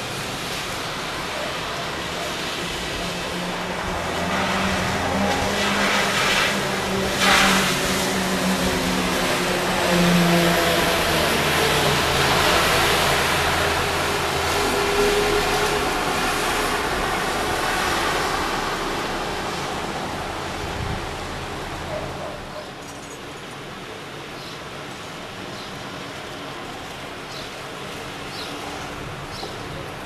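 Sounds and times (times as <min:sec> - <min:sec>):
loud rush of noise: 0:00.0 - 0:24.3
vehicle engine hum: 0:00.0 - 0:30.0.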